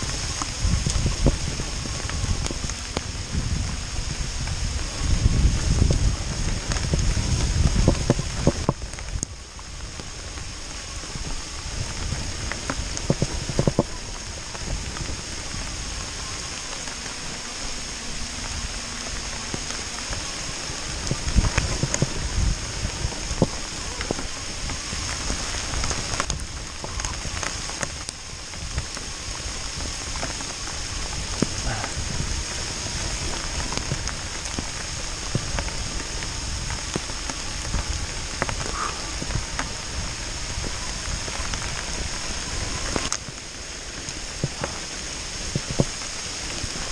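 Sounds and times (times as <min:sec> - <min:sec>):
low rumbles: 0:00.0 - 0:46.9
rain falling: 0:00.0 - 0:46.9
raindrops ticking close by: 0:00.0 - 0:46.9.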